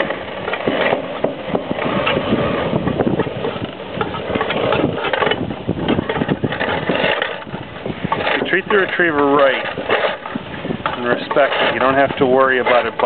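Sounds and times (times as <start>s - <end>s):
spring retriever rope clattering: 0.0s - 13.0s.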